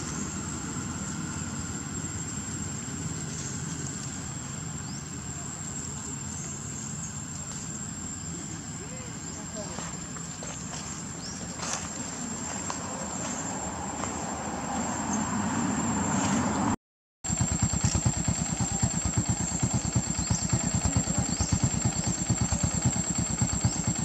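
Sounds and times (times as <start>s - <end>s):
small engine idling: 0.0s - 15.0s, 17.3s - 24.0s.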